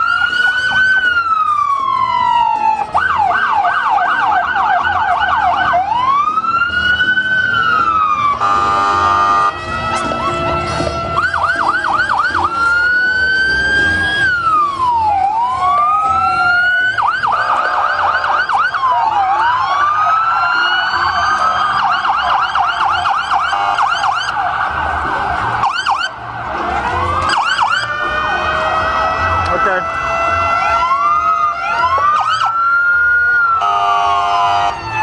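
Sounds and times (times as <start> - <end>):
emergency vehicle sirens: 0.0 - 35.0.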